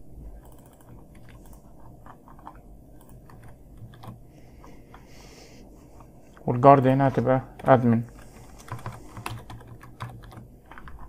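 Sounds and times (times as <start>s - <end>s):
keyboard typing: 0.2s - 5.1s, 6.0s - 11.0s.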